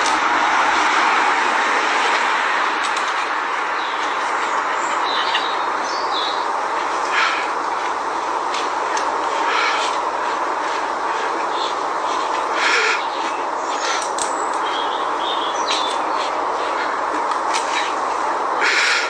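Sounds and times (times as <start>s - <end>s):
leafy branches rustling: 0.0s - 19.0s
outdoor rushing noise: 0.0s - 19.0s
small birds chirping: 3.5s - 19.0s.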